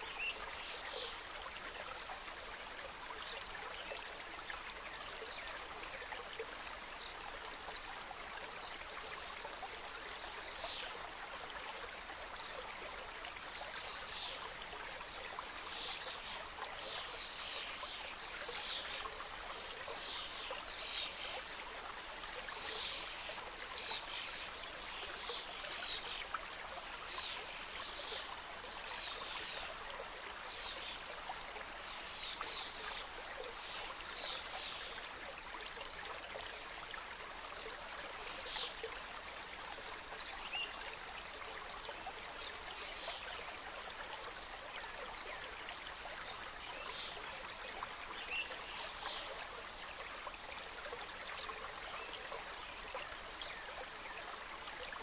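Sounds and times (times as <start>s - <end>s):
stream flowing and cascading: 0.0s - 55.0s.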